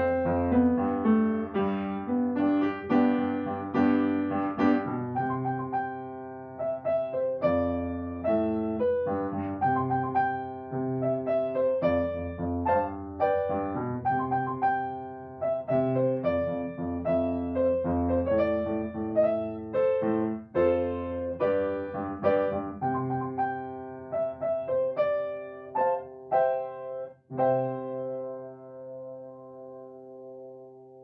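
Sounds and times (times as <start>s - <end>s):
solo piano melody: 0.0s - 31.0s.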